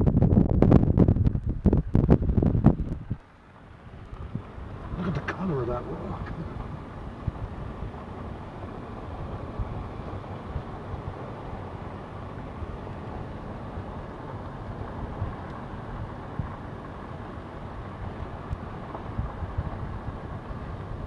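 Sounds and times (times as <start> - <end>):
vehicle engine and tyre rumble: 0.0 - 21.0.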